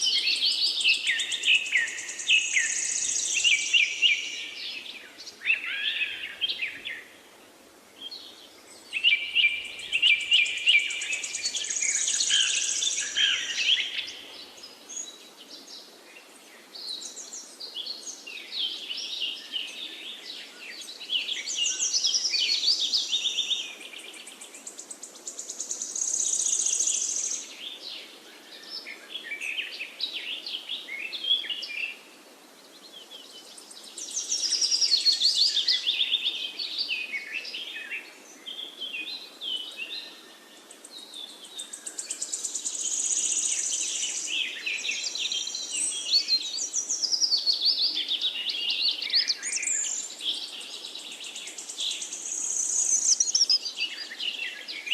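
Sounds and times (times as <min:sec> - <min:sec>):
faint background hiss: 0:00.0 - 0:54.9
songbirds warbling: 0:08.0 - 0:32.0, 0:32.7 - 0:54.9.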